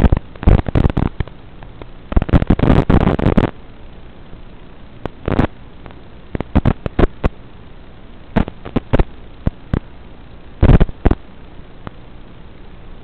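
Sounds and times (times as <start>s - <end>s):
sharp crackles and pops: 0.0s - 12.6s
steady receiver hiss: 0.0s - 13.0s.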